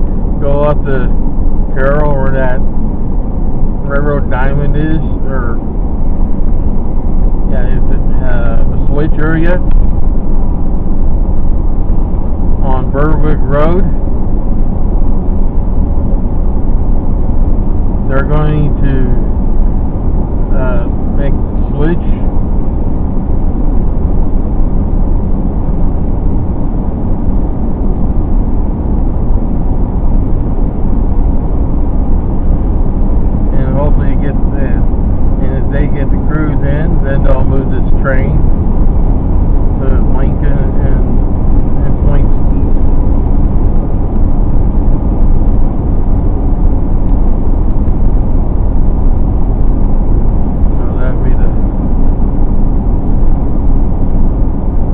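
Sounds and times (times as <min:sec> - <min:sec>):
car road and wind noise: 0:00.0 - 0:54.9.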